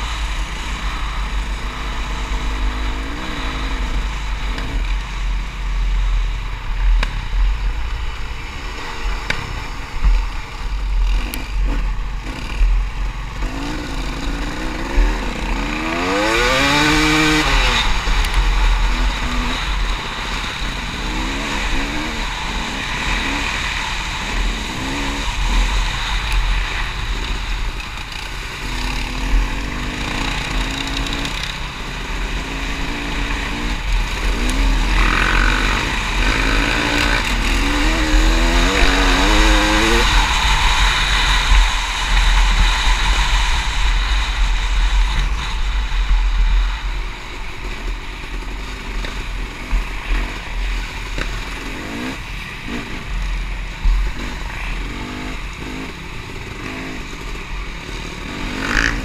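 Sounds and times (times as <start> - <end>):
off-road vehicle engine revving: 0.0 - 5.0, 11.0 - 45.6, 48.3 - 59.0
wind rumble on microphone: 0.0 - 59.0.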